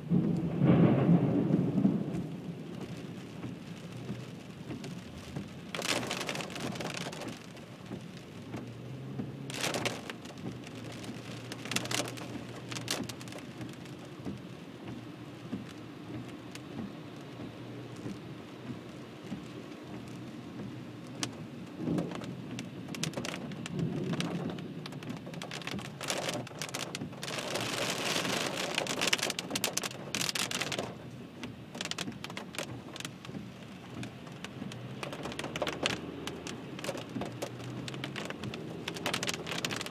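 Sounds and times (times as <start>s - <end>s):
heavy rain on car roof: 0.0s - 39.9s
car hum: 1.4s - 39.9s.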